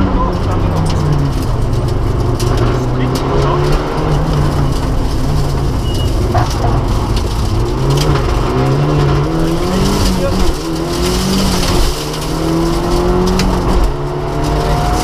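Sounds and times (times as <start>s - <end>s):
rally car engine accelerating: 0.0s - 15.0s.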